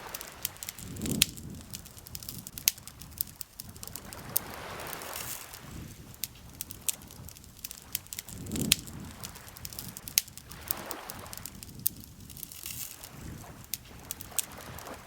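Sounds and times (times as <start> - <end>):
burning wood popping: 0.0 - 15.0
campfire crackling: 0.0 - 15.0.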